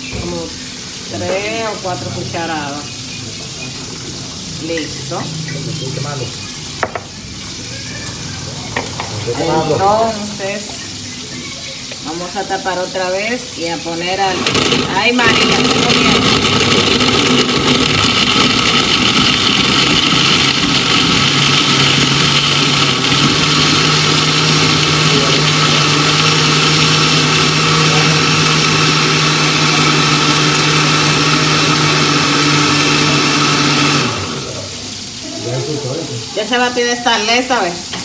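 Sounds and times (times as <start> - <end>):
blender motor running: 0.0 - 38.0.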